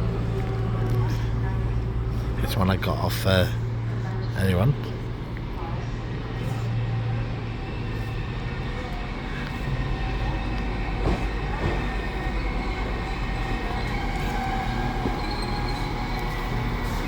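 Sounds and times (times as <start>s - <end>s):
train running low drone: 0.0s - 17.0s.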